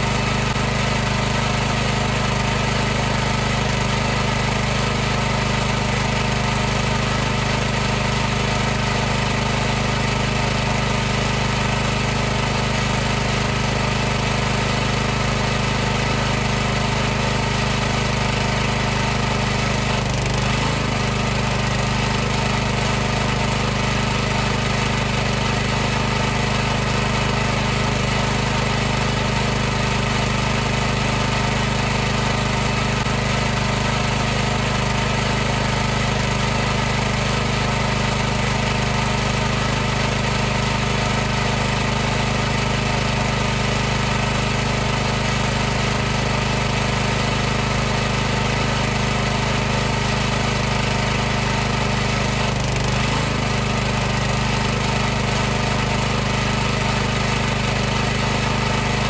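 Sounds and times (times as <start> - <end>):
pressure washer motor droning: 0.0 - 59.0.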